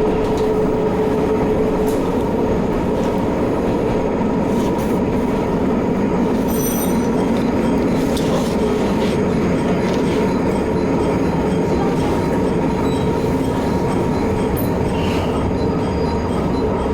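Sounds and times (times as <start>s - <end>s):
railcar engine running: 0.0s - 16.9s
rumble of wheels on rail: 0.0s - 16.9s.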